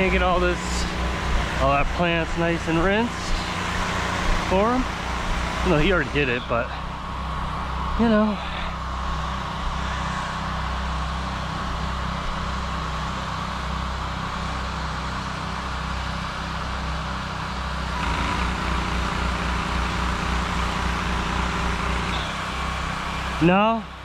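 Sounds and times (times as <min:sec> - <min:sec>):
pressure washer engine running: 0:00.0 - 0:07.0, 0:11.1 - 0:24.0.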